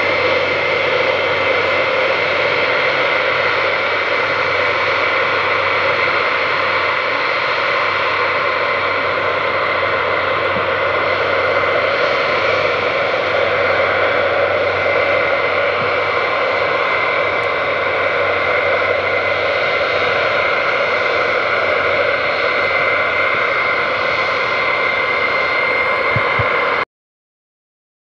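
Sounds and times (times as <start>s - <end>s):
jet engines whining: 0.0s - 26.9s.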